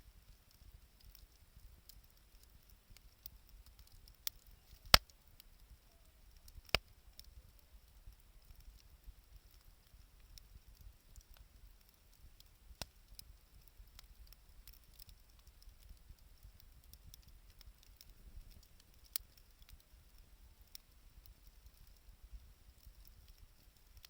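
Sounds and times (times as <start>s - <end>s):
bonfire crackling: 0.0s - 24.0s
sharp snaps of burning wood: 0.2s - 24.0s.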